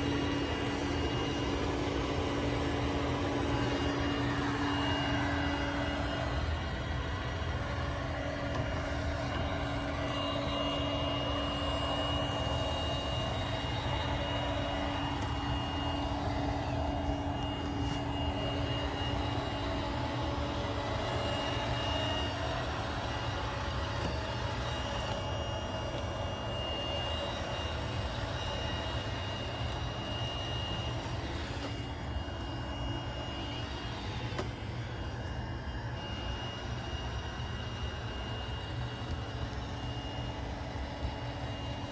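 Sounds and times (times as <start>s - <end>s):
high whine: 0.0s - 41.9s
robot vacuum running on carpet: 0.0s - 41.9s.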